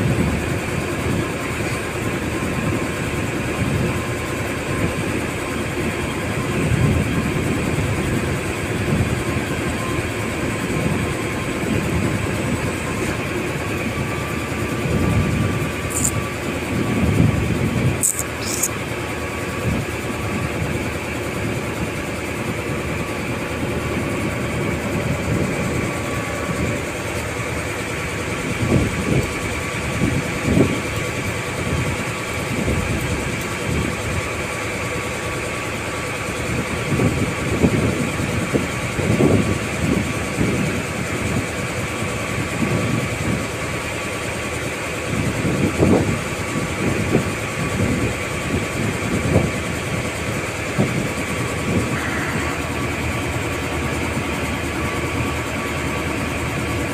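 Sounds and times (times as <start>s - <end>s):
boat engine droning: 0.0s - 56.9s.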